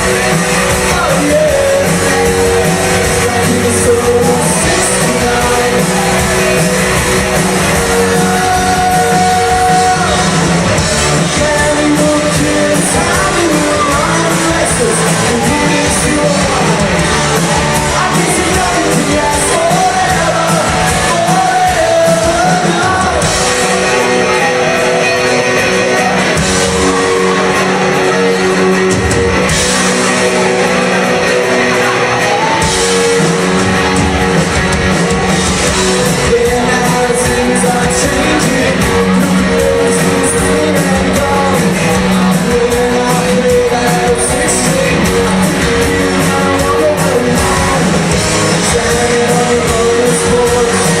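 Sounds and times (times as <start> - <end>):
live rock band playing: 0.0 - 51.0
person singing: 0.0 - 51.0.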